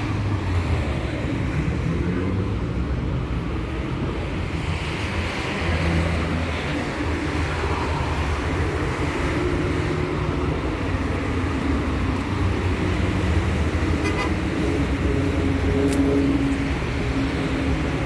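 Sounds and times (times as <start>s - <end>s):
cars driving past: 0.0s - 18.0s.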